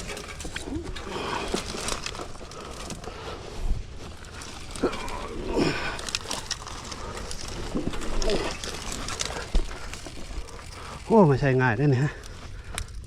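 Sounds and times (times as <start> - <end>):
footsteps rustling through brush: 0.0 - 12.7.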